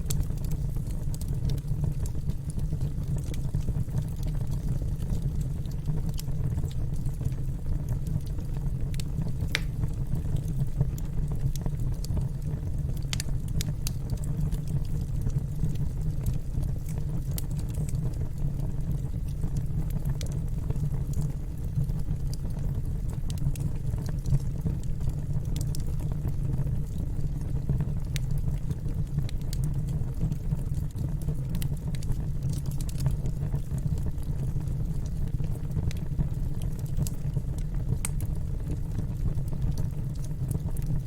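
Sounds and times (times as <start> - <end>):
fire crackles and pops: 0.0 - 41.0
wood fire rumbling: 0.0 - 41.0.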